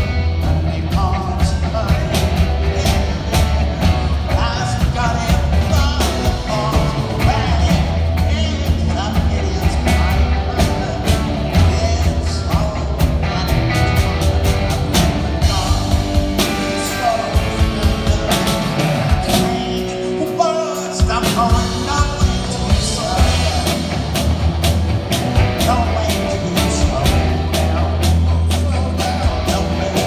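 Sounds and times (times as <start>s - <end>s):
person singing: 0.0s - 24.3s, 25.4s - 30.0s
bass guitar: 0.0s - 30.0s
drum kit beat: 0.0s - 30.0s
electric guitar: 0.0s - 30.0s.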